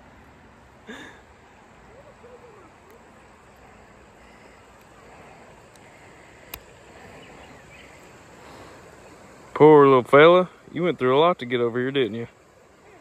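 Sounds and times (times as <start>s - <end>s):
insects: 0.0s - 13.0s
running river water: 0.0s - 13.0s.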